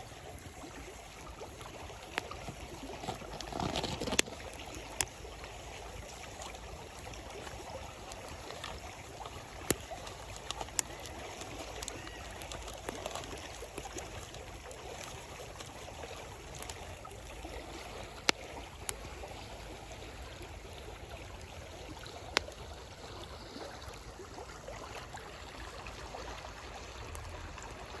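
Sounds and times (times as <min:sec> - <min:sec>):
river babbling: 0:00.0 - 0:28.0
campfire crackling and popping: 0:00.4 - 0:24.0.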